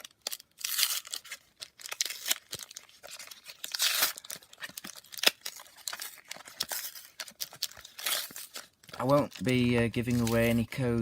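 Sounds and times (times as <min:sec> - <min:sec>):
plastic packaging being torn open: 0:00.0 - 0:11.0.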